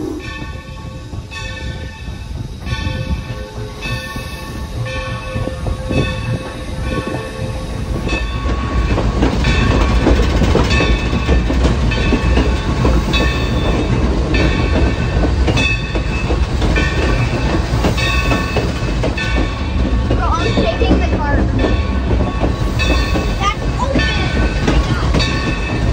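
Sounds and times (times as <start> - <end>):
train wheels rumbling and clattering: 0.0 - 25.9.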